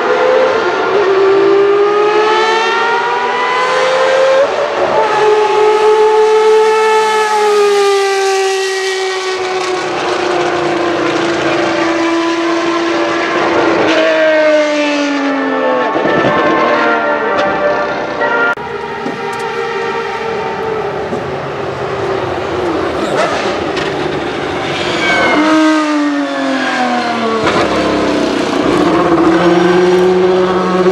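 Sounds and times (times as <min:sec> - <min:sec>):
race car engine at full throttle: 0:00.0 - 0:30.9.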